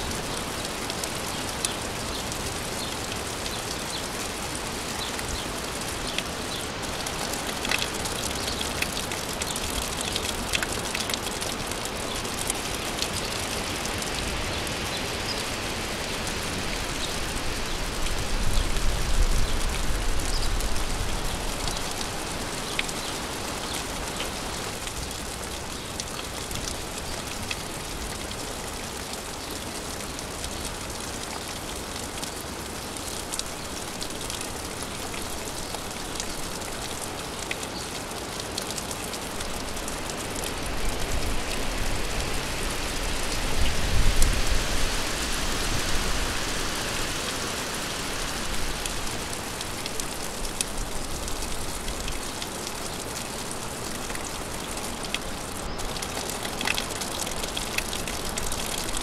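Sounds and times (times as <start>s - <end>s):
sharp drips: 0.0s - 59.0s
steady rain: 0.0s - 59.0s.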